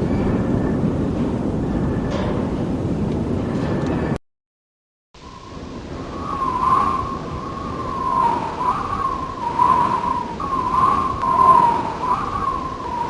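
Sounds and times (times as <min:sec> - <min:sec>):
strong wind howling: 0:00.0 - 0:04.2, 0:05.2 - 0:13.0.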